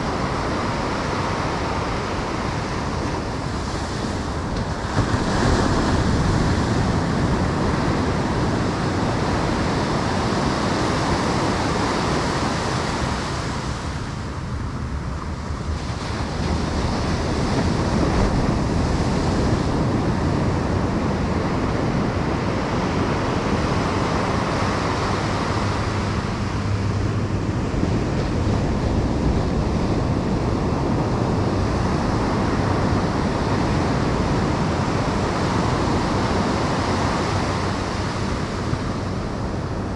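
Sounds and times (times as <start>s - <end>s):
ocean surf breaking on beach: 0.0s - 39.9s
wind buffeting microphone: 0.0s - 39.9s.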